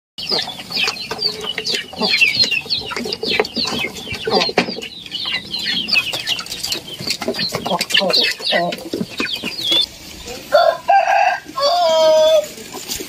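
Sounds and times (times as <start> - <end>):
chickens clucking and calling: 0.2 - 13.0.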